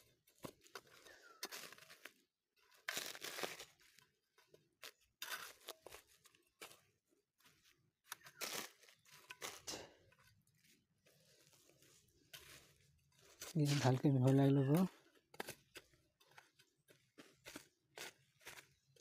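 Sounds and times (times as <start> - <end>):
dry fertilizer rustling and crunching: 0.0 - 19.0.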